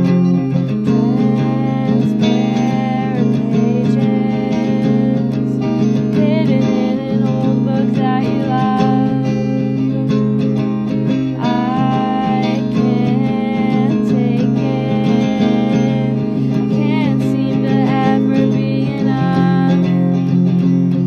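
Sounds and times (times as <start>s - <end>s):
acoustic guitar chords: 0.0s - 21.0s
person singing: 0.7s - 20.2s.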